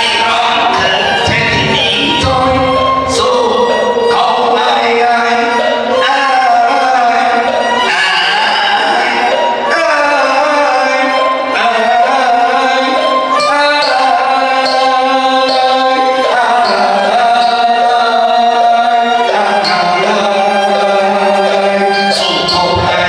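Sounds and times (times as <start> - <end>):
opera melody with sliding notes: 0.0 - 23.0.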